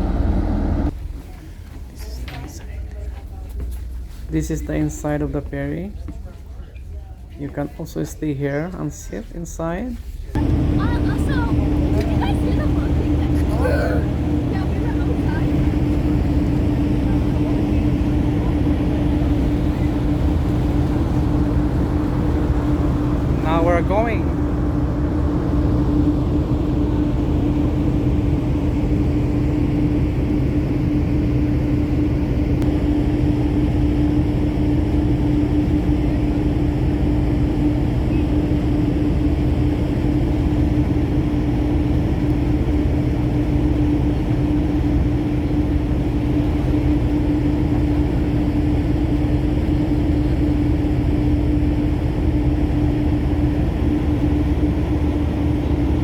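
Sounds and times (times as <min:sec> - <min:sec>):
ship engines droning: 0:00.0 - 0:01.1, 0:10.3 - 0:56.0.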